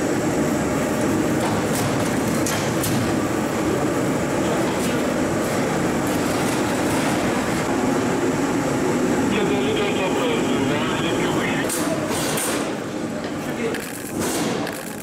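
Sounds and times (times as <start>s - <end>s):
steady machinery noise: 0.0s - 15.0s.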